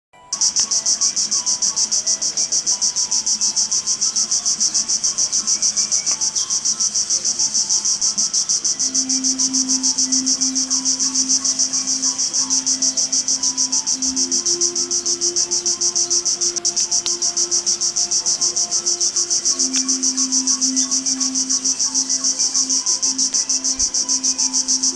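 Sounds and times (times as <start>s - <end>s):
pulsing insect drone: 0.4s - 24.9s.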